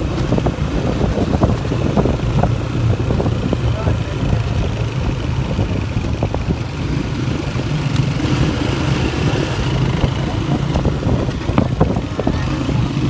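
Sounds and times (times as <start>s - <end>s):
small motorcycle engines humming: 0.0s - 13.0s.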